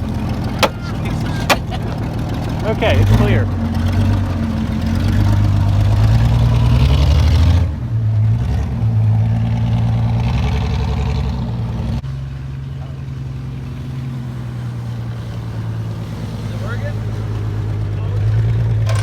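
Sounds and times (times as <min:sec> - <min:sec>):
truck engine running hard: 0:00.0 - 0:19.0.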